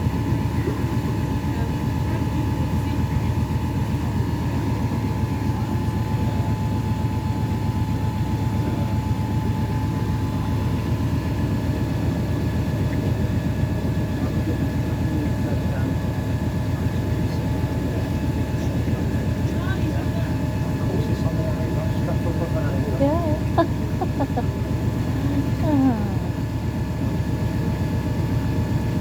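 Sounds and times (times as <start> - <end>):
boat motor rumbling: 0.0 - 29.0.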